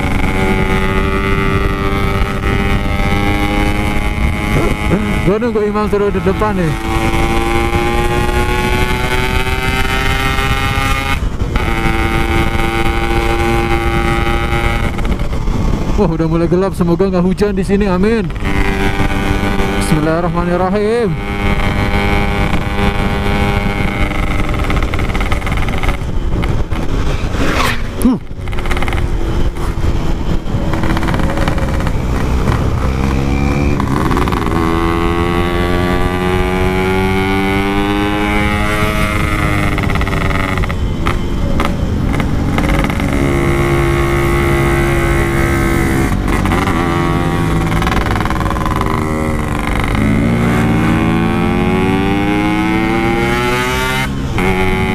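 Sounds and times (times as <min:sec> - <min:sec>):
two-stroke motorcycle engine: 0:00.0 - 0:15.9, 0:17.8 - 0:27.1, 0:28.0 - 0:54.9.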